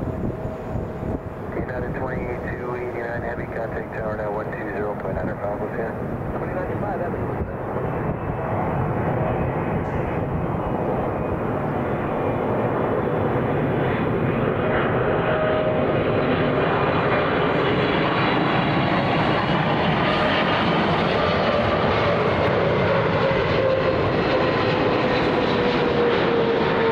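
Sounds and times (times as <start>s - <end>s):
jet airliner rumble: 0.0s - 26.9s.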